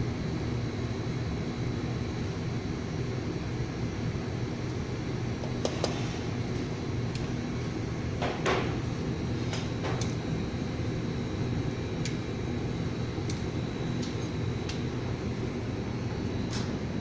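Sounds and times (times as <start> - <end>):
mechanical hum with high whine: 0.0 - 17.0.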